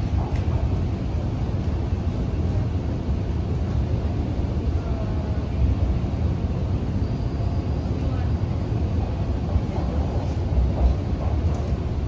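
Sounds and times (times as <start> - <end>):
train rumbling in a tunnel: 0.0 - 12.0.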